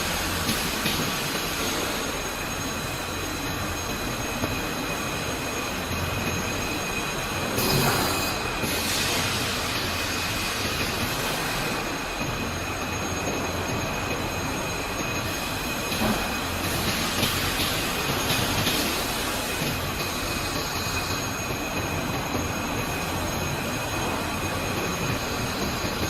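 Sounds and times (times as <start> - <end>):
dense mechanical noise: 0.0 - 26.0
machinery high whine: 0.0 - 26.0.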